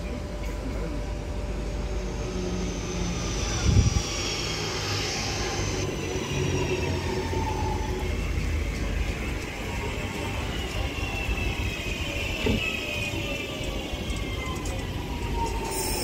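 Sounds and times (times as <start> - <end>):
high motor whine: 0.0 - 16.0
train wheels rumbling: 0.0 - 16.0.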